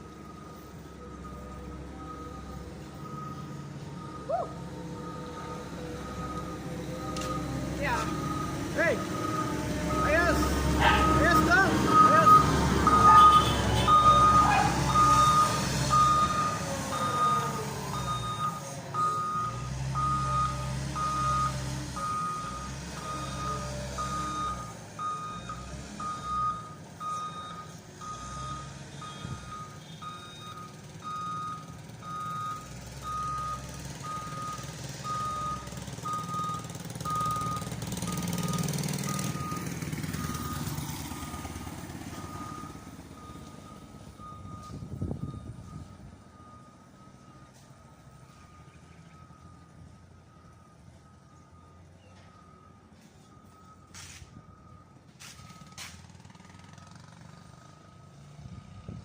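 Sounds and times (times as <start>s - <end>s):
diesel engine rumbling: 0.0s - 59.0s
excavator warning alarm beeping: 0.0s - 59.0s.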